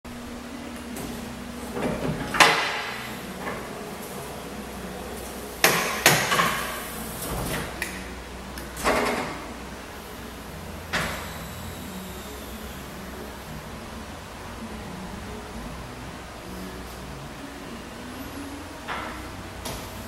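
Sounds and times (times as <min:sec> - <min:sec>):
steady mechanical hum: 0:00.1 - 0:20.0.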